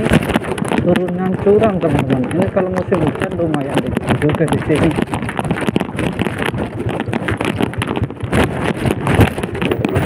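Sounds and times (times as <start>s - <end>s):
knocks from rough road: 0.0s - 10.0s
motorcycle engine running: 0.0s - 10.0s
wind buffeting microphone: 0.0s - 10.0s.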